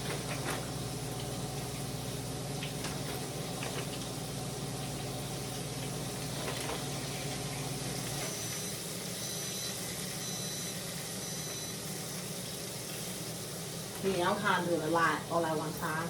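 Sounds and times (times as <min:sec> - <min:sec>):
chicken frying in hot oil: 0:00.0 - 0:16.0
electronic appliance beeps: 0:00.0 - 0:16.0.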